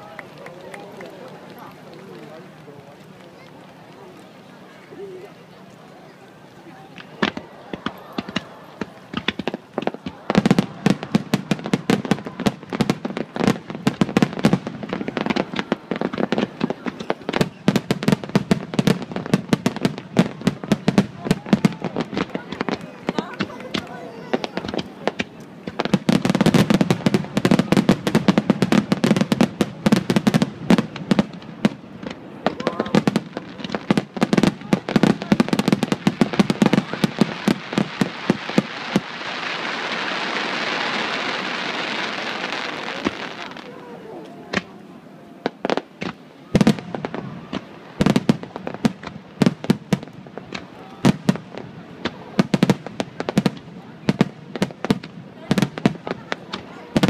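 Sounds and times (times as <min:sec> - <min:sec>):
fireworks banging: 0:06.7 - 0:57.0.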